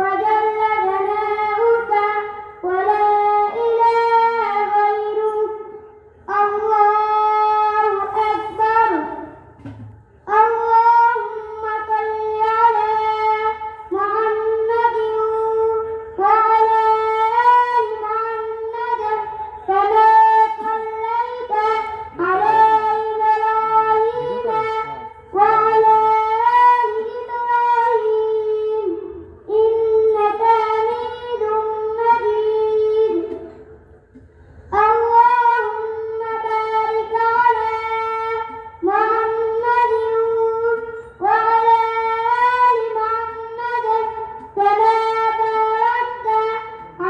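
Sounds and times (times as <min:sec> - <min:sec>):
boy chanting melodically: 0:00.0 - 0:47.0.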